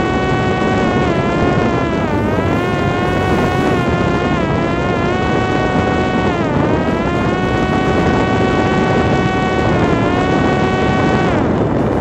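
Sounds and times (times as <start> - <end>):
drone motor whine: 0.0 - 12.0.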